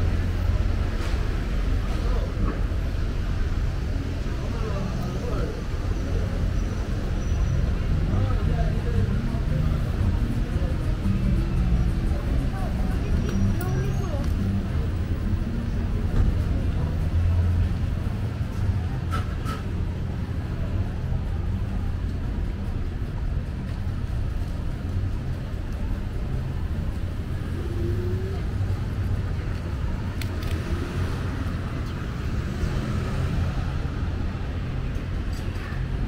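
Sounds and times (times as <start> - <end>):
passing cars rumbling: 0.0 - 36.0.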